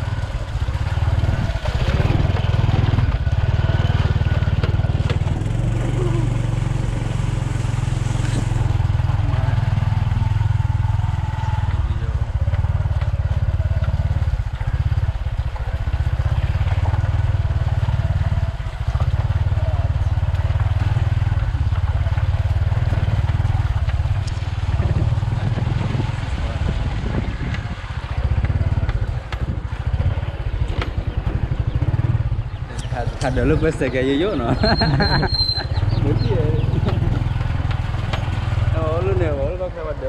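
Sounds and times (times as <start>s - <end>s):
motorcycle engine rumbling: 0.0s - 40.0s.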